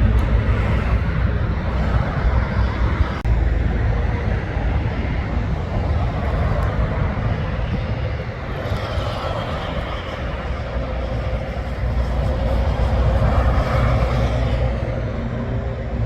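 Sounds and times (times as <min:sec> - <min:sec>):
heavy truck engine rumble: 0:00.0 - 0:16.0
road noise: 0:00.0 - 0:16.0.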